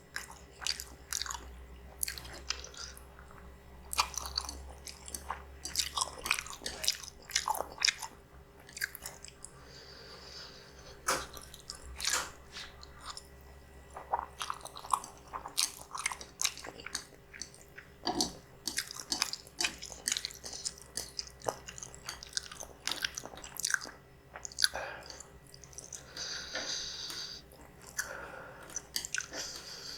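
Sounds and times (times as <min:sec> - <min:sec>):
wet chewing mouth sounds: 0:00.1 - 0:09.7, 0:10.4 - 0:29.9.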